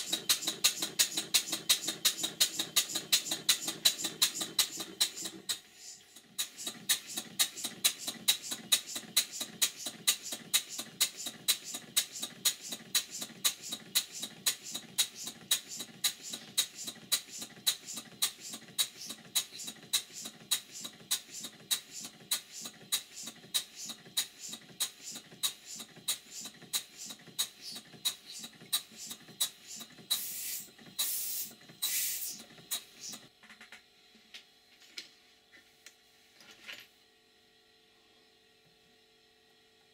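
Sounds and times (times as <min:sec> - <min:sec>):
steam engine exhaust puffs: 0:00.0 - 0:33.3.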